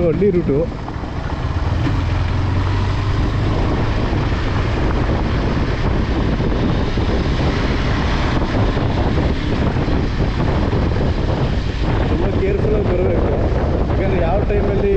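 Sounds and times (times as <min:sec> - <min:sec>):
motorcycle engine drone: 0:00.0 - 0:14.9
wind rushing over microphone: 0:00.0 - 0:14.9.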